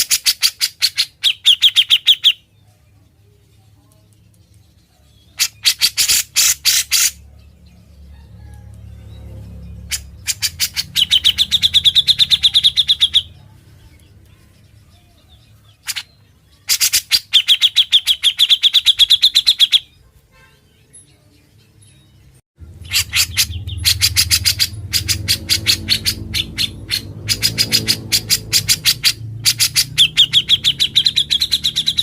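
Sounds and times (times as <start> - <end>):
bulbul rattling trill song: 0.0 - 2.5, 4.2 - 7.3, 9.4 - 20.0, 21.8 - 32.0.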